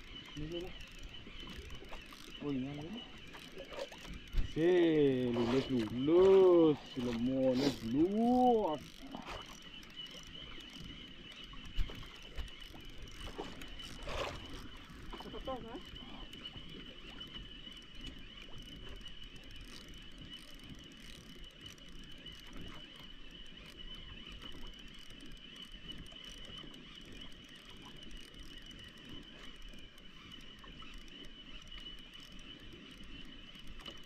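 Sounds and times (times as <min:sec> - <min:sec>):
boat engine rumble: 0:00.0 - 0:34.0
steady high whine: 0:00.0 - 0:34.0.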